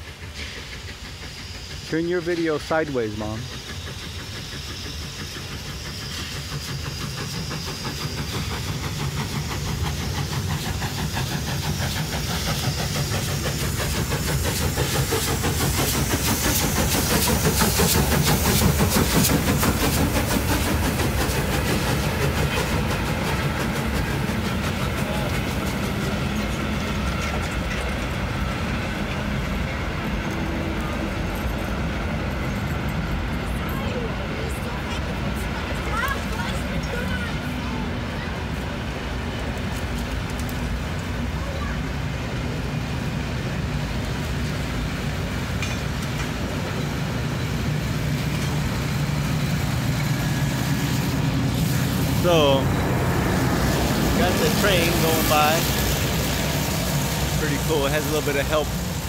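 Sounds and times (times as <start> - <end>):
steam locomotive chuffing: 0.0 - 59.0
train coaches rolling on rails: 0.0 - 59.0.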